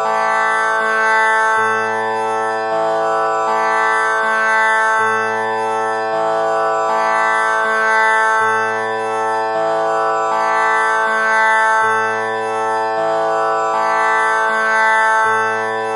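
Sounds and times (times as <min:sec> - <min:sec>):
tanpura drone: 0:00.0 - 0:15.9.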